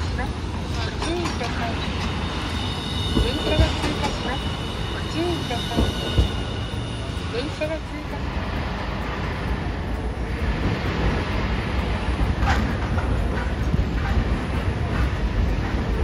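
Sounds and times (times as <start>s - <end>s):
tram rumbling on rails: 0.0s - 16.0s
wheels clicking over rails: 0.0s - 16.0s.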